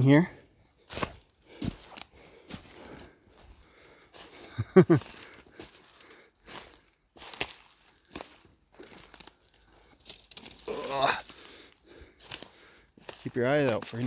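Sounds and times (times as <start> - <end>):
footsteps crunching dry leaves: 0.4 - 14.0.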